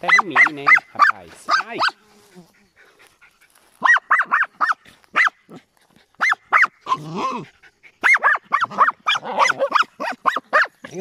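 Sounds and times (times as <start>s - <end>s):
small dogs yipping: 0.0s - 11.0s.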